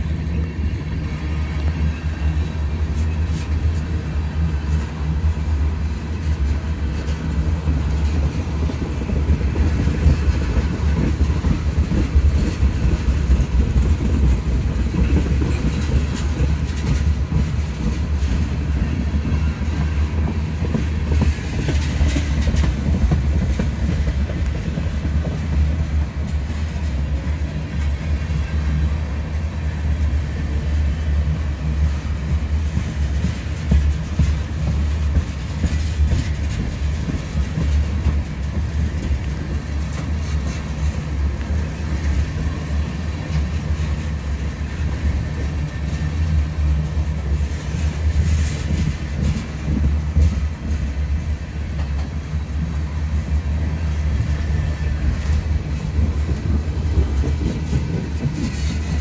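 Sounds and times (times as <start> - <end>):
faint rail clicks: 0.0 - 59.0
freight train wheels rumbling on rails: 0.0 - 59.0.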